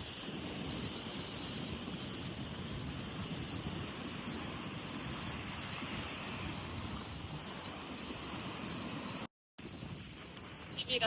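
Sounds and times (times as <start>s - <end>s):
small waves on shore: 0.0s - 11.0s
wind noise on microphone: 0.0s - 11.0s.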